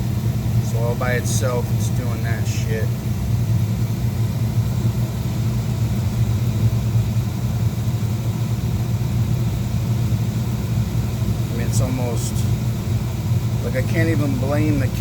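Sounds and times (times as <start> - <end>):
oil furnace burner and blower hum: 0.0 - 15.0.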